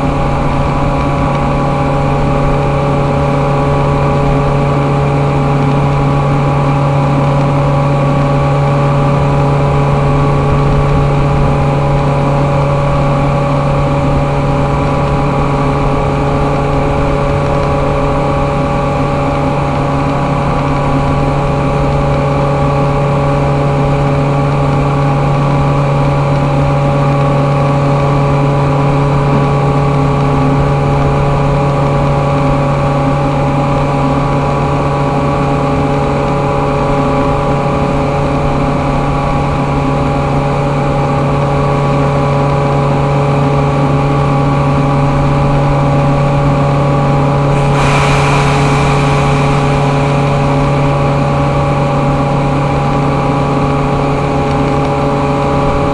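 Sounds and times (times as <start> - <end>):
industrial machinery drone: 0.0 - 55.9.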